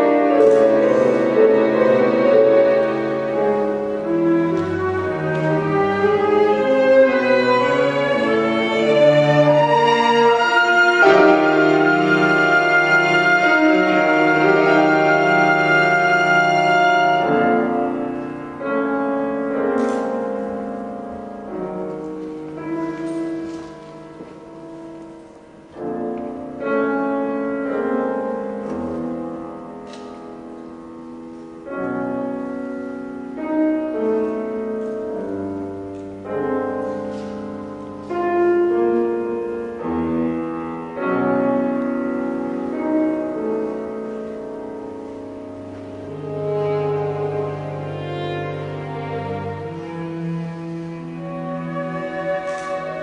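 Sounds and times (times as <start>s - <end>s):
chamber ensemble playing classical piece: 0.0s - 53.0s.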